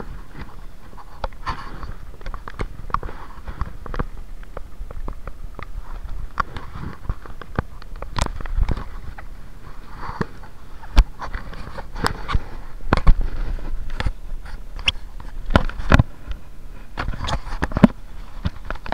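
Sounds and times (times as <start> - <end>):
camera and bike rattling: 0.0 - 18.9
wind: 0.0 - 18.9.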